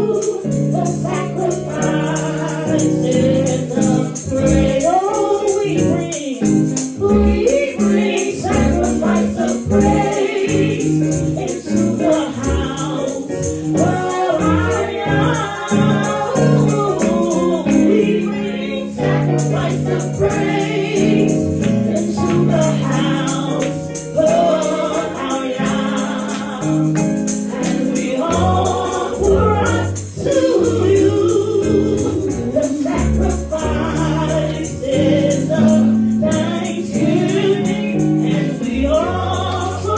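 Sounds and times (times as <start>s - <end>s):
group of voices singing: 0.0s - 39.9s
shaken hand percussion: 0.0s - 39.9s
sustained keyboard chords: 0.0s - 39.9s.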